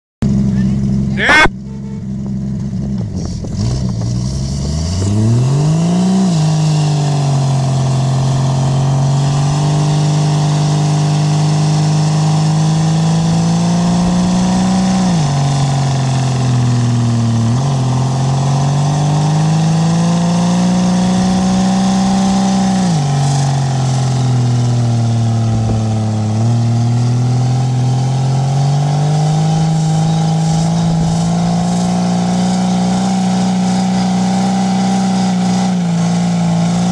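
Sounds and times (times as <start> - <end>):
car engine revving hard: 3.1 - 36.9.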